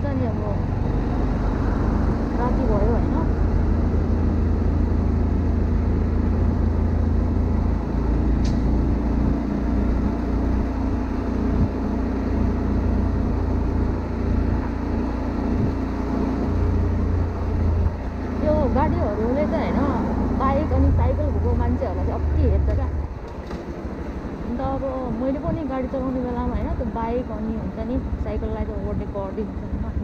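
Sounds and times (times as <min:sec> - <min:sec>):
motorcycle engine rumbling: 0:00.0 - 0:30.0.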